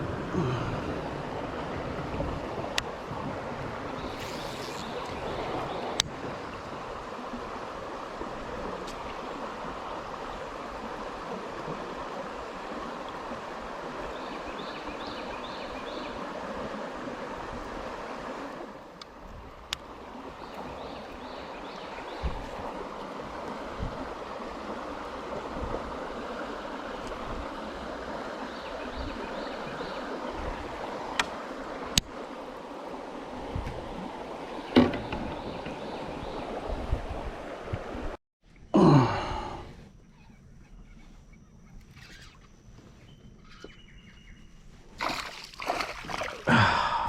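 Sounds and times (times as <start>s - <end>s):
river current rushing: 0.0s - 38.1s, 45.0s - 47.0s.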